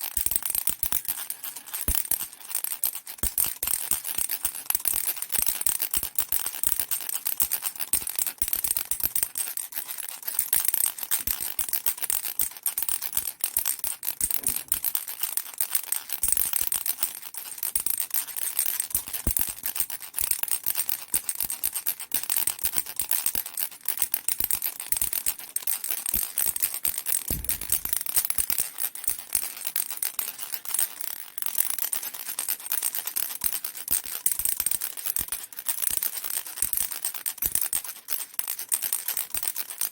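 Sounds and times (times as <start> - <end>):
baby rattle shaking: 0.1 - 39.9.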